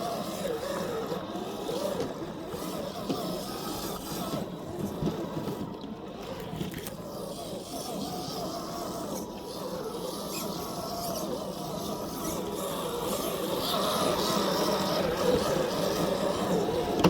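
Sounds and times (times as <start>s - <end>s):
toy car electric motor whining: 0.0s - 17.0s.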